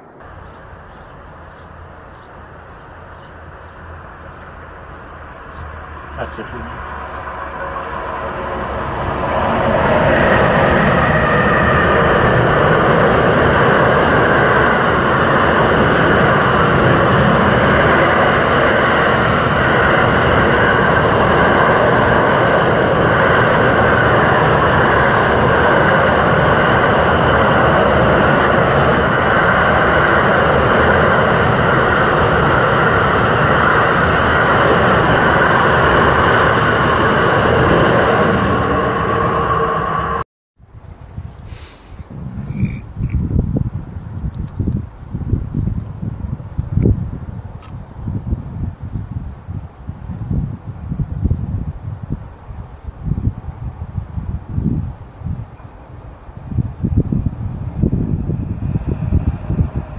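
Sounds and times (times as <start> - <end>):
train wheels rumbling on rails: 0.0 - 40.2, 41.5 - 59.9.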